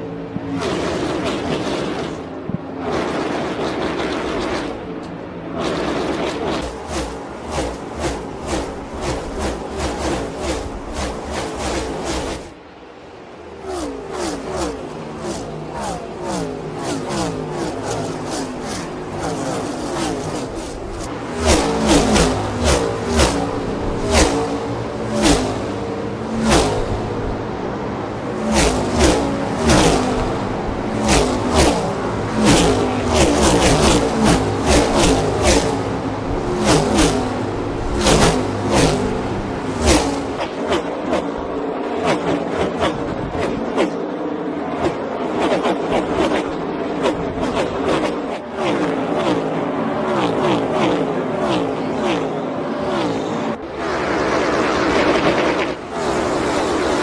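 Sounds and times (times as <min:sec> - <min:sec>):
race cars passing at full speed: 0:00.0 - 0:57.0.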